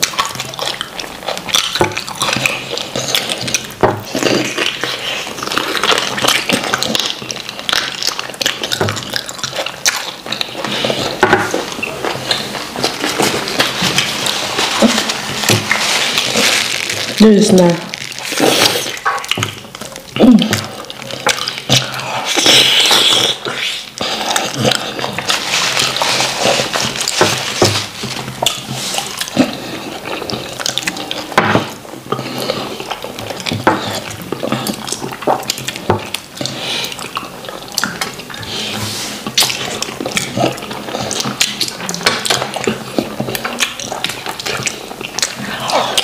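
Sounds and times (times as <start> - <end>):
chewing: 0.0 - 46.0.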